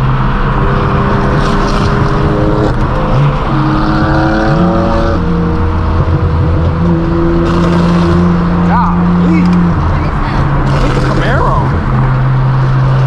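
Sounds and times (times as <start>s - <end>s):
loud car engine shifting gears: 0.0s - 13.0s.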